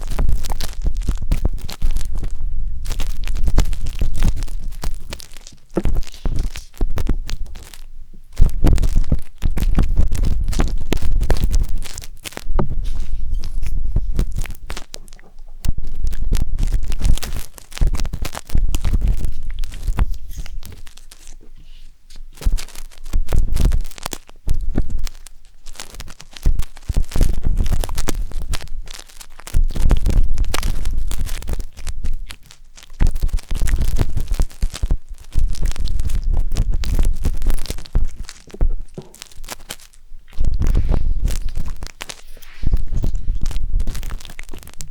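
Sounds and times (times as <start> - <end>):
skewer scratching on microphone: 0.0 - 44.9.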